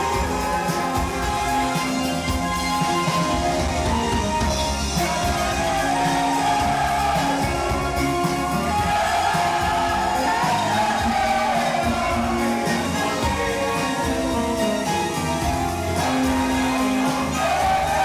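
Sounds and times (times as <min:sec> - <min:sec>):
dance music with singing: 0:00.0 - 0:18.0.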